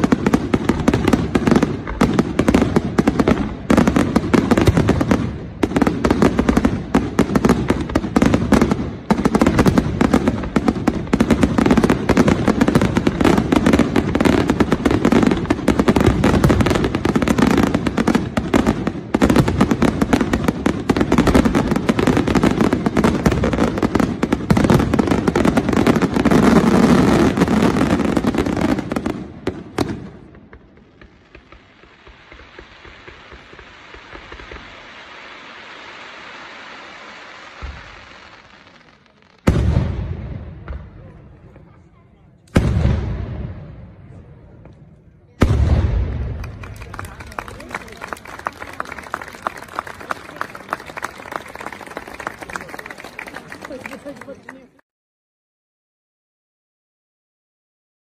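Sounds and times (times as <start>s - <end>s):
fireworks bangs and crackling: 0.0s - 54.8s.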